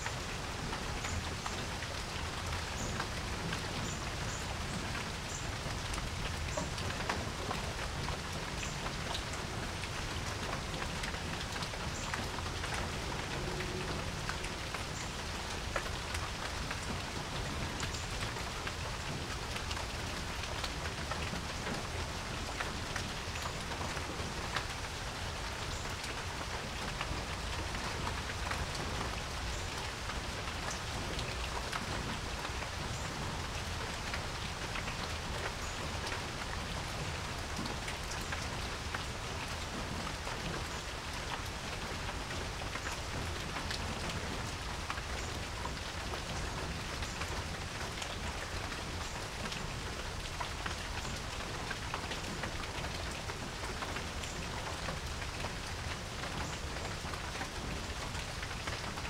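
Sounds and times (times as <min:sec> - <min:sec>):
rain pattering on porch: 0:00.0 - 0:59.0.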